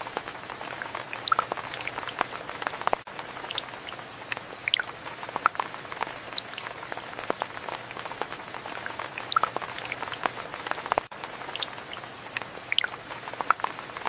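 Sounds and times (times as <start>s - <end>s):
large raindrops plinking: 0.0s - 14.0s
steady rain: 0.0s - 14.0s.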